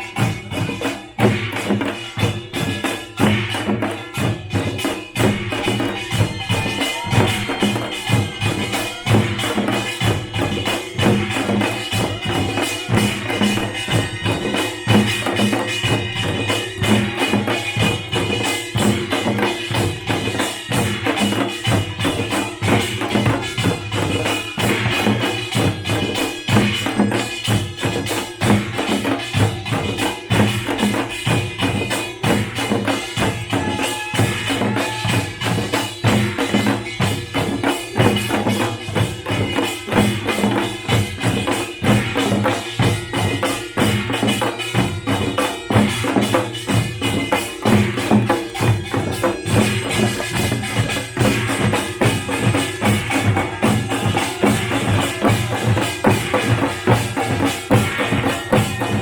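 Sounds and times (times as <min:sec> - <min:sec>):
drums beating fast rhythm: 0:00.0 - 0:59.0.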